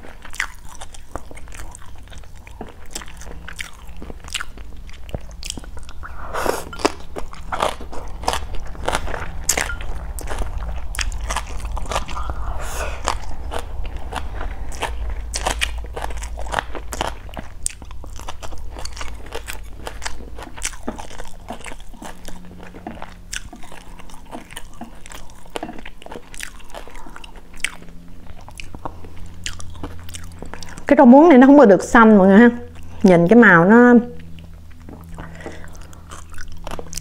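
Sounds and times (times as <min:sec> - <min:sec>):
close-miked chewing: 0:00.0 - 0:31.2, 0:32.6 - 0:33.4, 0:34.0 - 0:37.0.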